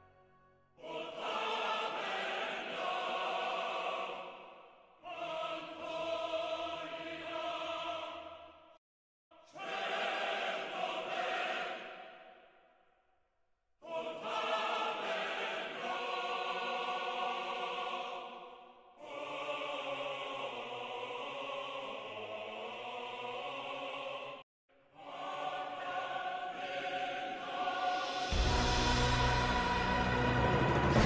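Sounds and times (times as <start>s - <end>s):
choir singing held chords: 0.0s - 8.8s, 9.4s - 12.6s, 13.8s - 31.0s.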